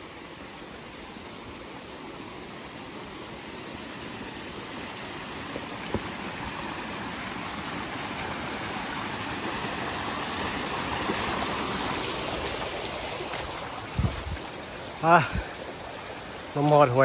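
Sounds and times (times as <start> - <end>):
stream running over rocks: 0.0 - 17.0.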